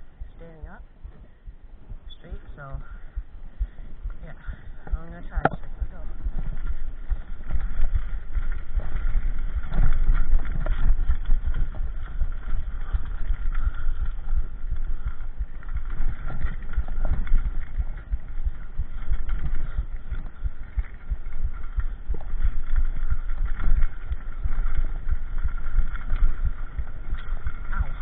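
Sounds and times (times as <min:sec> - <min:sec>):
wind on microphone: 0:00.0 - 0:28.0
mountain bike rattling: 0:02.6 - 0:28.0.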